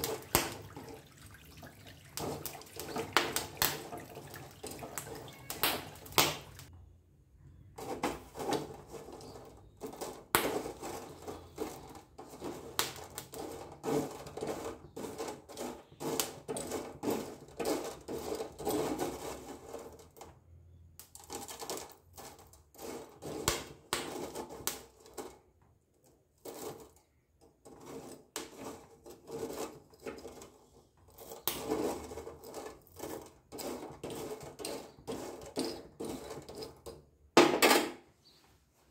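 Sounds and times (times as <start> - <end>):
pencil pieces clattering in strainer: 0.0 - 6.7, 7.8 - 20.2, 21.1 - 25.4, 27.7 - 37.0.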